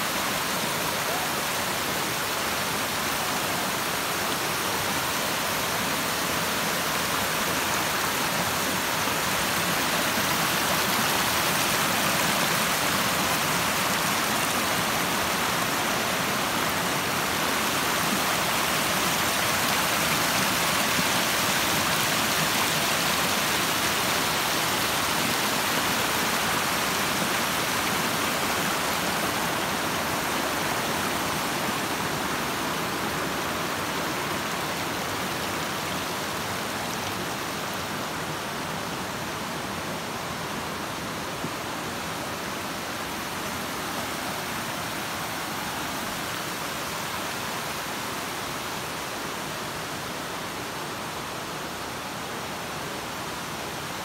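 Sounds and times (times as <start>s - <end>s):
creek rushing over stones: 0.0s - 54.0s.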